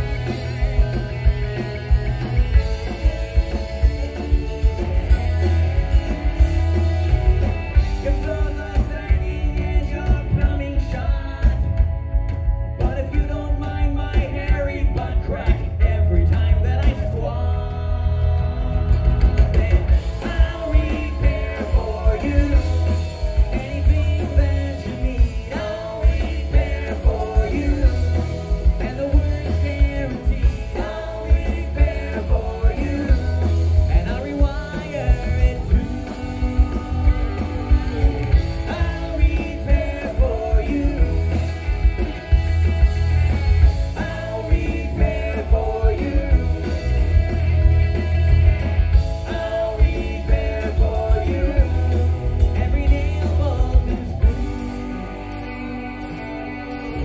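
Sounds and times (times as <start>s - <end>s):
lead voice singing: 0.0s - 57.0s
live rock band playing: 0.0s - 57.0s.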